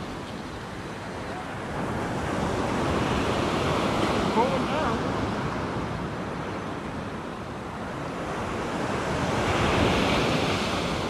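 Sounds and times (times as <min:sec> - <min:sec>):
ocean surf washing ashore: 0:00.0 - 0:11.0.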